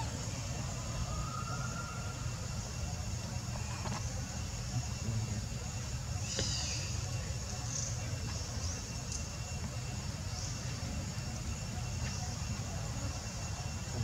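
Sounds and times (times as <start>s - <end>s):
insect-like hiss: 0.0s - 14.0s.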